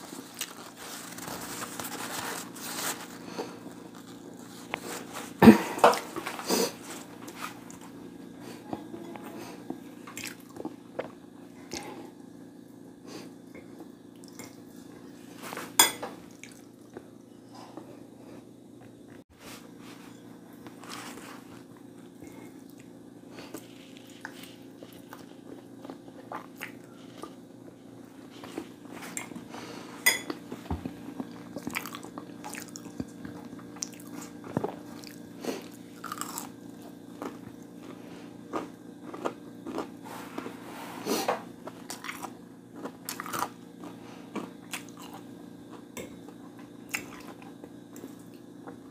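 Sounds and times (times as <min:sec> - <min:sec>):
person chewing crunchy food: 0:00.0 - 0:08.7, 0:09.4 - 0:12.0, 0:13.6 - 0:17.2, 0:20.0 - 0:48.9.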